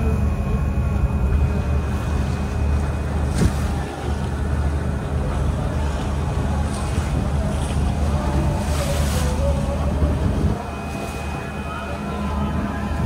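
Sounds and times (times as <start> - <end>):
ferry engine drone: 0.0 - 13.0
wind: 0.0 - 13.0
water rushing: 1.4 - 13.0.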